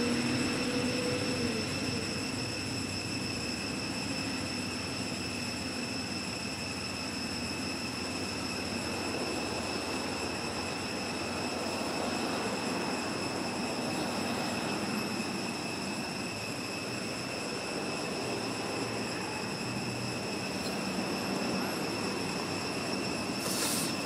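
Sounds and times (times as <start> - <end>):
background hiss: 0.0 - 24.0
high-pitched insect drone: 0.0 - 24.0.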